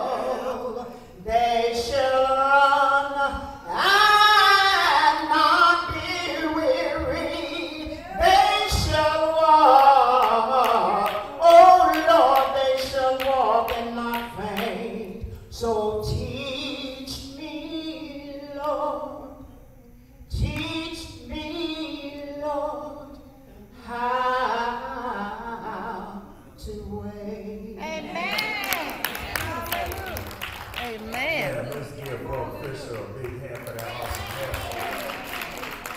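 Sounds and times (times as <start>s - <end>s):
woman singing gospel: 0.0s - 32.8s.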